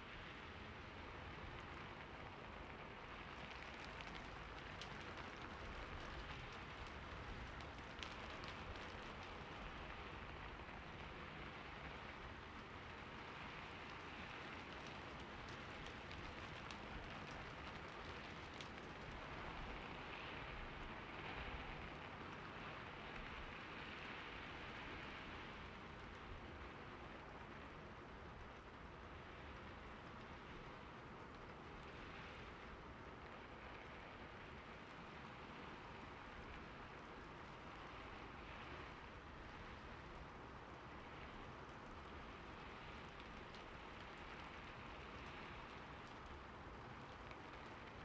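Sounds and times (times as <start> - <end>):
rain falling on a roof: 0.0 - 48.0
sharp raindrop ticks: 0.8 - 48.0.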